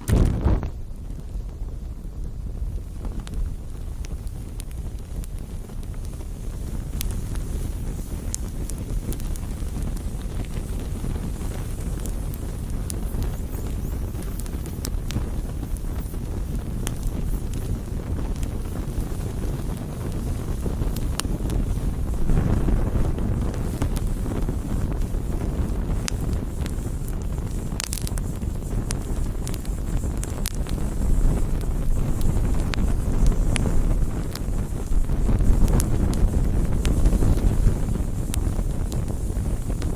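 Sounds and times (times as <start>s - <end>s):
campfire roaring: 0.0s - 39.9s
wind on microphone: 0.0s - 39.9s
wood crackling and popping: 0.0s - 39.9s.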